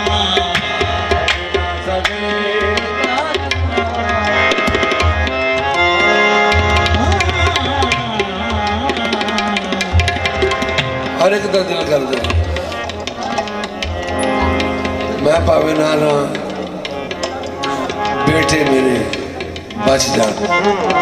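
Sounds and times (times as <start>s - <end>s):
fast tabla strokes: 0.0s - 21.0s
harmoniums playing a melody: 0.0s - 21.0s.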